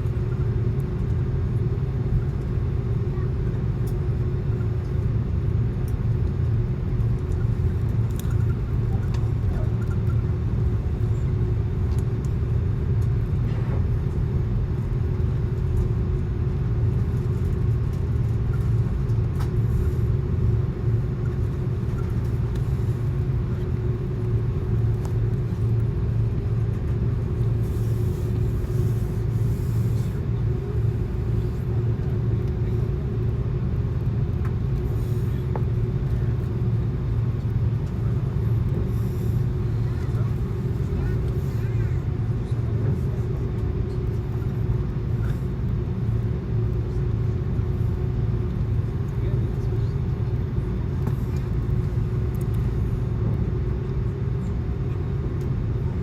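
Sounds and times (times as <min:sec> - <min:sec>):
airliner cabin rumble: 0:00.0 - 0:56.0
steady hum: 0:05.1 - 0:56.0.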